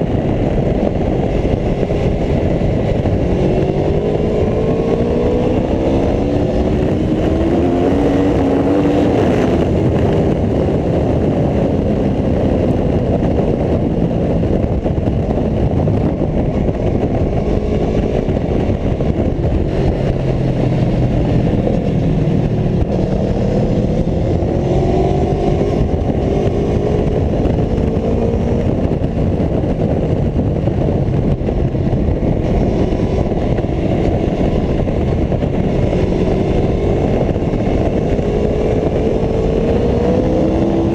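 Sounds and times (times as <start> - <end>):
motorcycle engine running hard: 0.0 - 40.9
wind noise rushing: 0.0 - 40.9.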